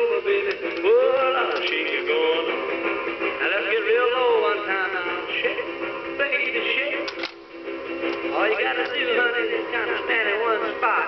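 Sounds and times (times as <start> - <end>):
song from small speaker: 0.0 - 11.0.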